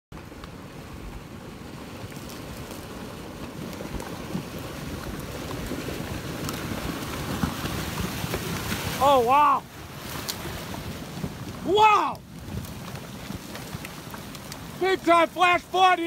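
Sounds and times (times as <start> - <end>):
flood debris low rumble: 0.1 - 16.0
wood cracking: 2.0 - 9.4, 10.0 - 16.0.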